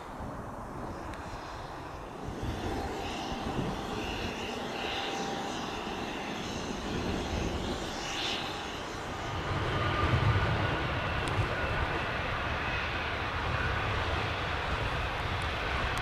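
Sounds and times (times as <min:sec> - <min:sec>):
jet engines rumbling and hissing: 0:00.0 - 0:16.0.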